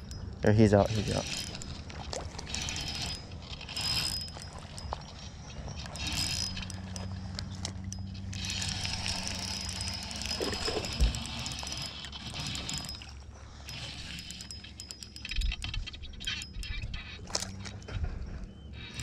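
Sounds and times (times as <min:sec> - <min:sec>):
fishing reel gears whirring: 0:00.0 - 0:17.9, 0:18.5 - 0:19.0.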